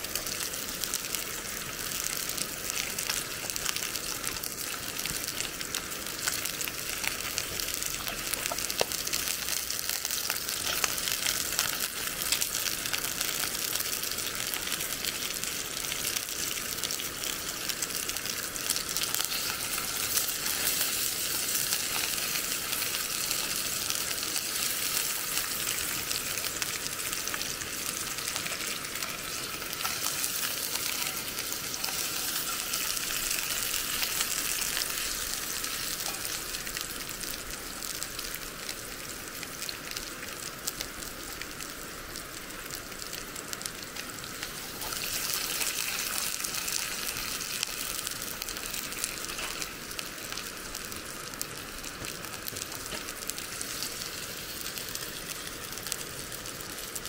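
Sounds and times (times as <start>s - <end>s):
food sizzling in a hot pan: 0.0s - 57.0s.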